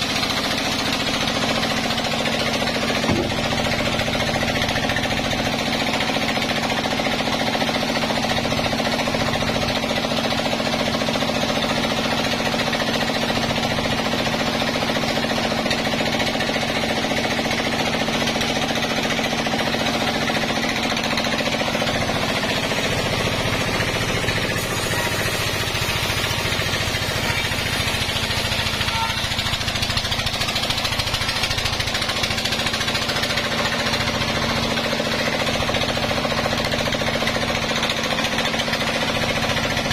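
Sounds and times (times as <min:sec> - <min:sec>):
band saw sawing a log: 0:00.0 - 0:39.9.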